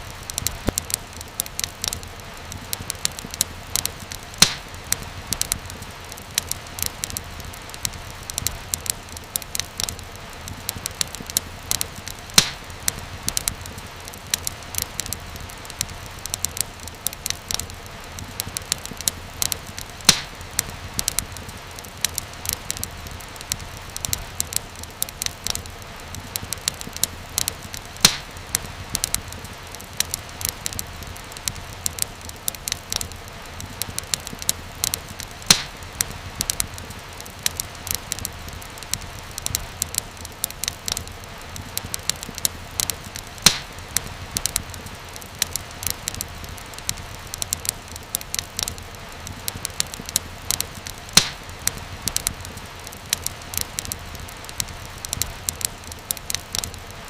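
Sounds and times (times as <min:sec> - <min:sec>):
fire pops: 0:00.0 - 0:56.9
low steady hiss: 0:00.0 - 0:57.0
wood fire crackling: 0:00.0 - 0:57.0.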